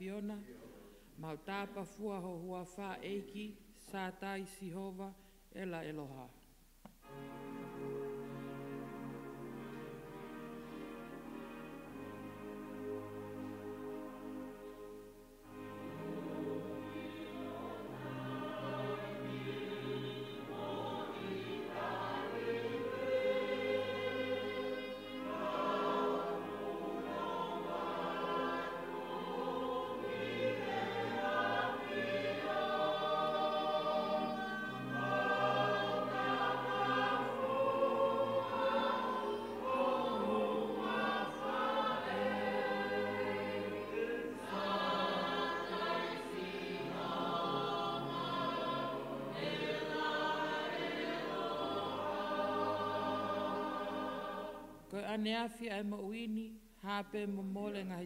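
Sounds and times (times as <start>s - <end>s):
congregation singing a hymn: 7.0s - 54.9s.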